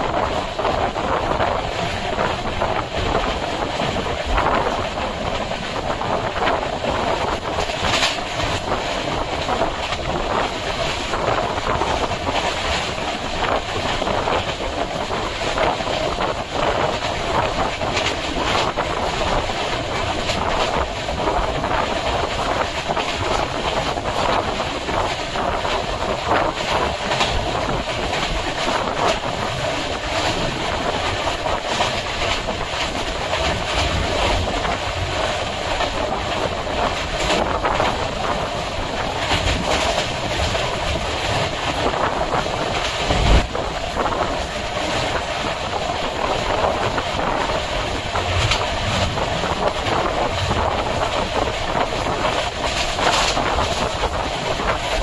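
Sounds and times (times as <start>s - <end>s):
rail joint clatter: 0.0s - 55.0s
train wheels rumbling on rails: 0.0s - 55.0s.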